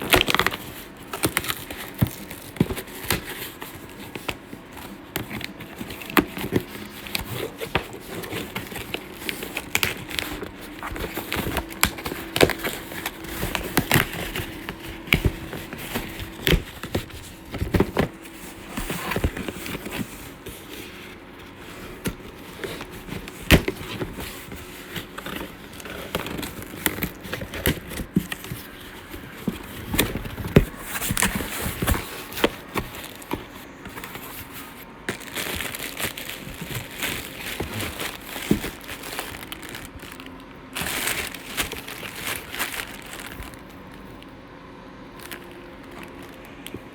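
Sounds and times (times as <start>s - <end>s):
crinkling: 0.0s - 46.9s.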